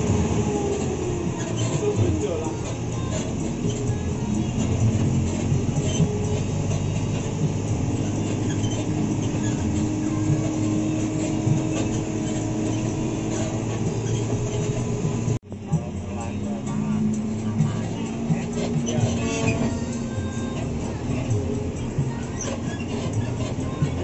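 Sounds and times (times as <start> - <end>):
bus diesel engine running: 0.0 - 24.0
road rumble: 0.0 - 24.0.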